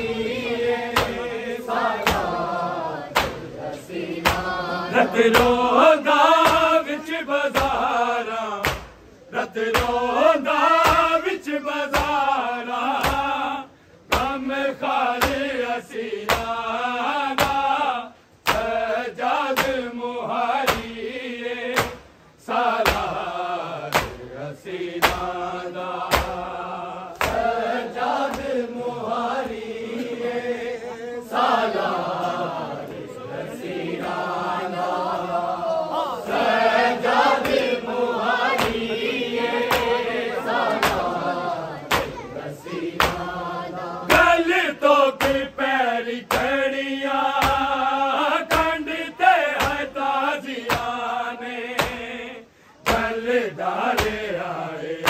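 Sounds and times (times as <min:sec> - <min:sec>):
rhythmic chest slaps: 0:00.0 - 0:30.3, 0:36.2 - 0:55.0
men chanting in unison: 0:00.0 - 0:55.0.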